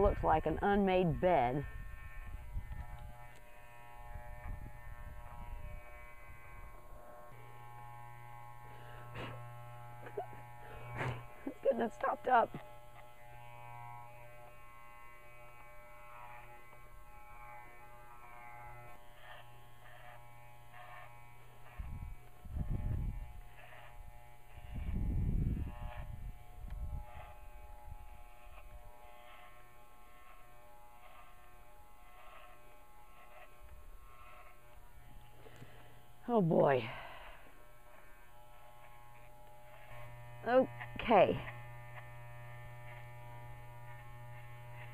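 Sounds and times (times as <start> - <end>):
electric dog clippers buzzing: 0.0 - 44.9.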